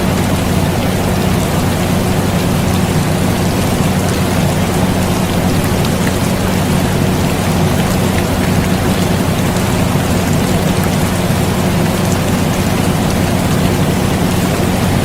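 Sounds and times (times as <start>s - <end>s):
air conditioner humming: 0.0s - 15.0s
steady rain: 0.0s - 15.0s.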